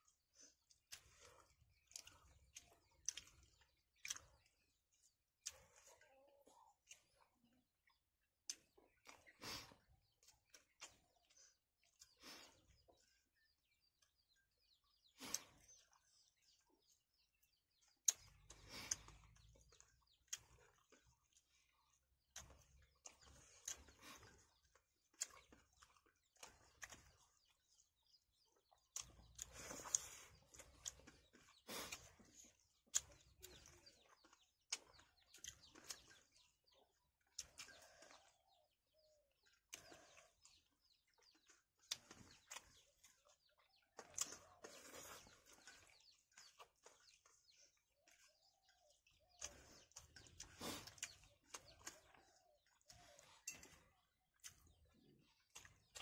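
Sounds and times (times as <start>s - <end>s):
chewing and lip smacks: 0.1s - 56.0s.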